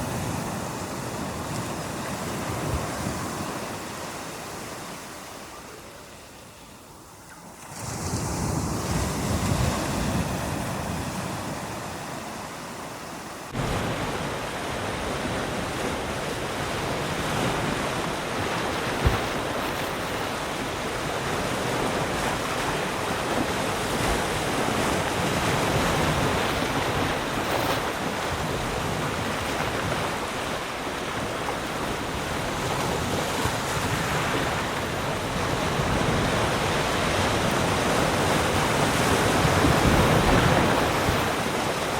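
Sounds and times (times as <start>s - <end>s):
waves breaking on shore: 0.0s - 41.9s.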